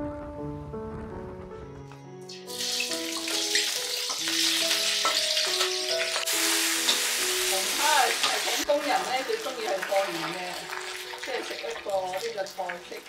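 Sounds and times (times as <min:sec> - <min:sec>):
background music: 0:00.0 - 0:13.0
food sizzling in hot oil: 0:02.3 - 0:13.0.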